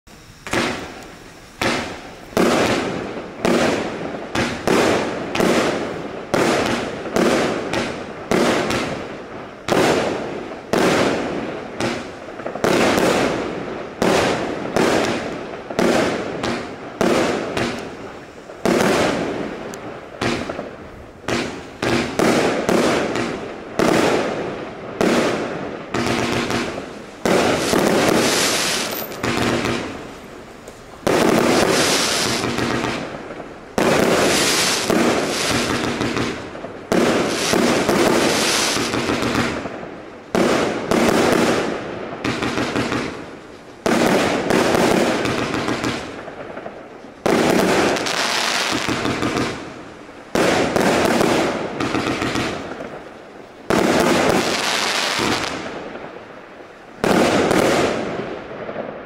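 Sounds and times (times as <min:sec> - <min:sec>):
fireworks cake shots: 0:00.2 - 0:56.2, 0:57.0 - 0:59.0.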